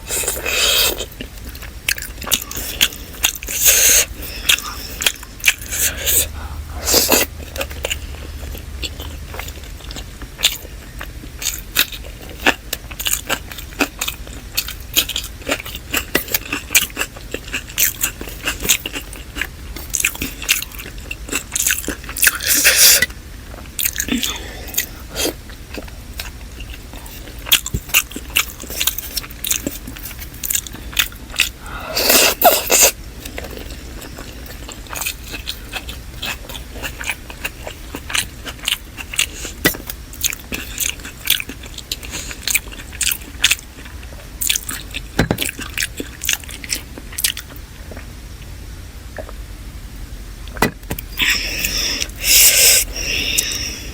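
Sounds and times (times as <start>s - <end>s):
wet chewing and biting: 0.0s - 48.1s.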